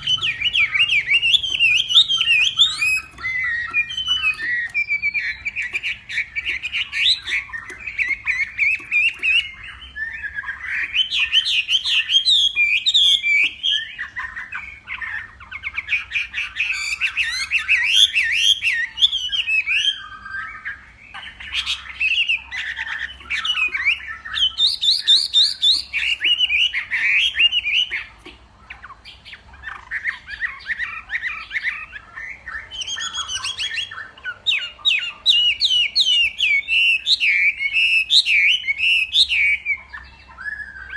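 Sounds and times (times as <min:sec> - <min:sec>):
bird singing whistled phrases: 0:00.0 - 0:28.1, 0:28.7 - 0:40.9.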